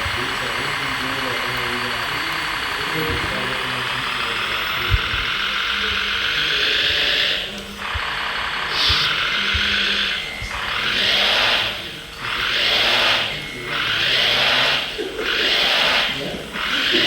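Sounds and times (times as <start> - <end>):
electric motor and gears whirring: 0.0 - 17.0.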